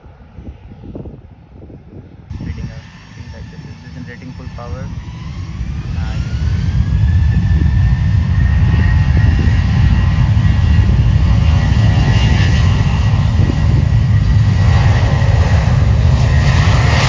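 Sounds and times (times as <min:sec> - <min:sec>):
jet engines at takeoff power: 0:00.0 - 0:17.0.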